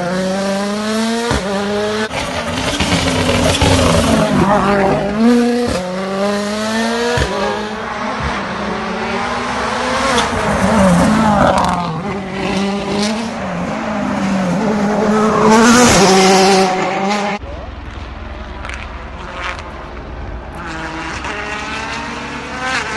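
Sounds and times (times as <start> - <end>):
rally car engine at high revs: 0.0 - 17.4, 20.4 - 22.9.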